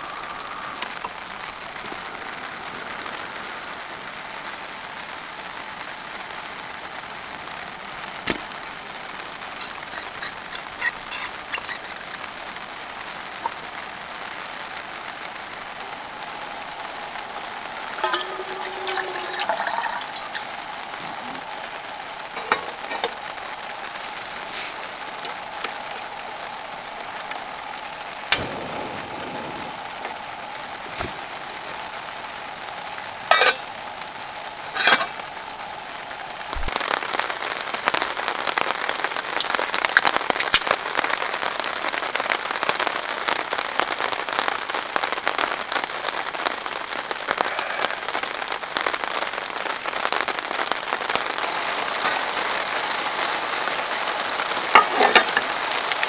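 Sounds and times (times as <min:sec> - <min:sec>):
rain pattering on tent: 0:00.0 - 0:56.0.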